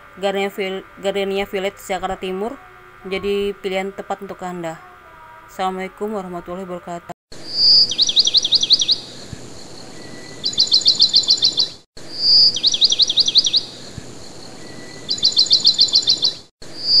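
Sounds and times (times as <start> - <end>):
songbird chirping: 0.2 - 17.0.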